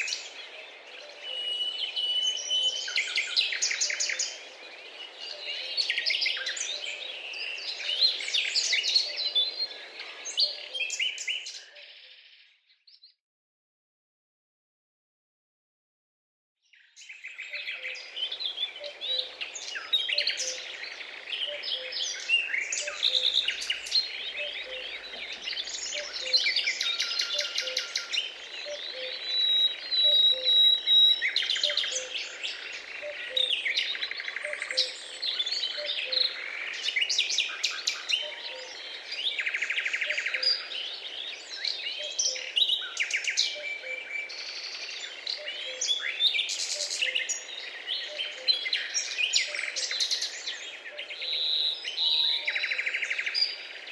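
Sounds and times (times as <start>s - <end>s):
small birds chirping: 0.0s - 13.2s, 16.6s - 53.9s.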